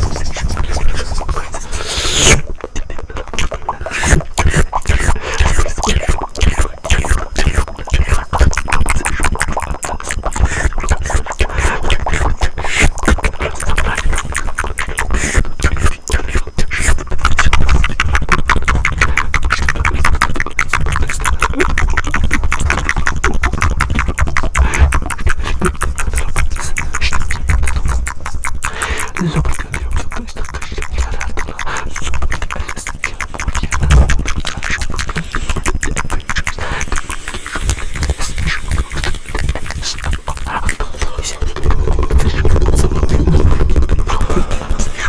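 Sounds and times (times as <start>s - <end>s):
wet mouth clicks and pops: 0.0s - 45.0s.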